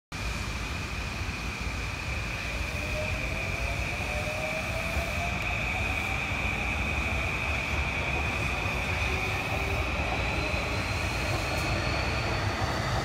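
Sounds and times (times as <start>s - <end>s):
train low rumble: 0.2s - 13.0s
steady high-pitched tone: 1.6s - 13.0s
train motor whine: 2.3s - 13.0s.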